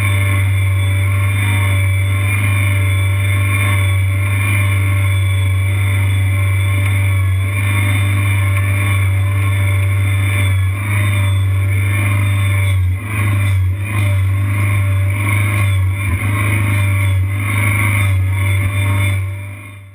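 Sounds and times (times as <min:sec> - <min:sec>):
mini skid steer engine running: 0:00.0 - 0:19.9.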